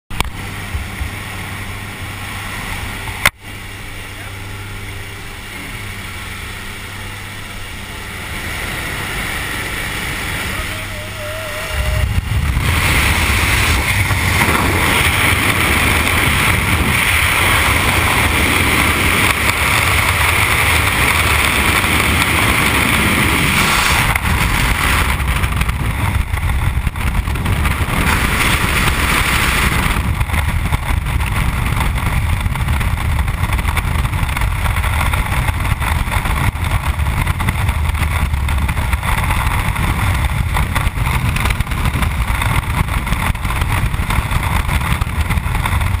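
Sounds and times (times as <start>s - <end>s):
wind rushing on microphone: 0.1s - 46.0s.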